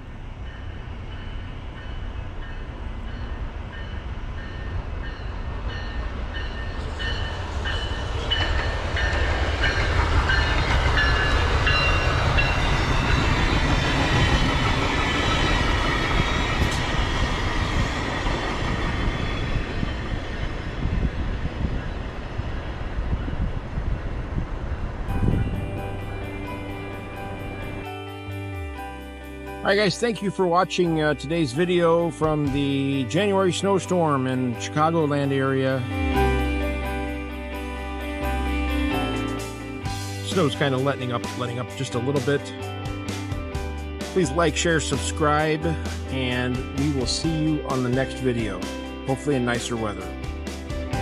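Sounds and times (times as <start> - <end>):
train wheel and rail noise: 0.0 - 51.0.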